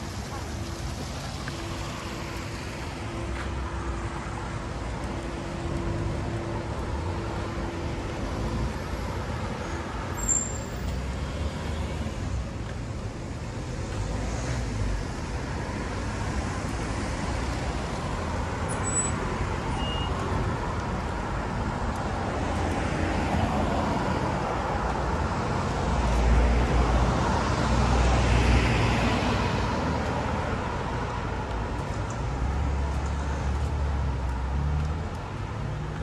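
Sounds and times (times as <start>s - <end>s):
cars driving past: 0.0s - 36.0s.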